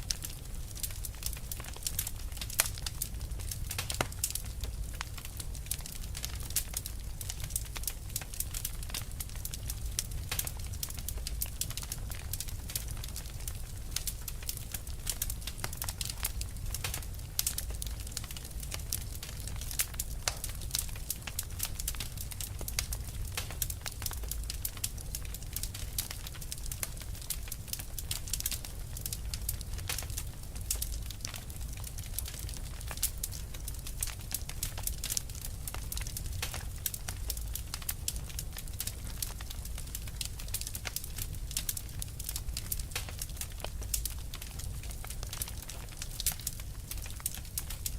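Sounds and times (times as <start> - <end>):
fire crackling: 0.0 - 47.9.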